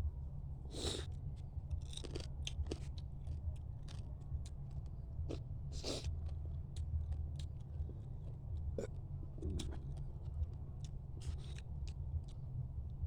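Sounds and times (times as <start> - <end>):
chewing and crunching: 0.7 - 13.0.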